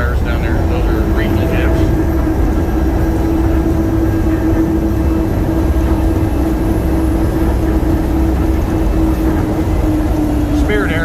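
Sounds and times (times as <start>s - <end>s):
train running on guideway: 0.0s - 11.0s.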